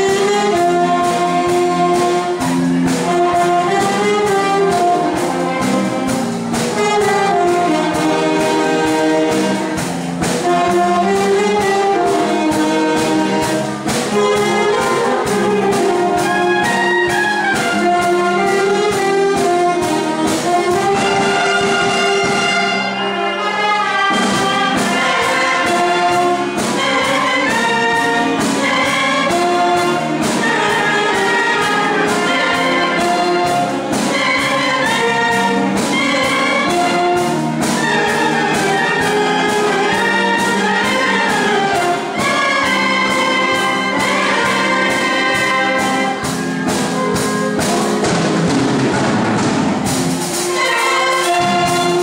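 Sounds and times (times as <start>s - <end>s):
wind band playing: 0.0s - 52.0s.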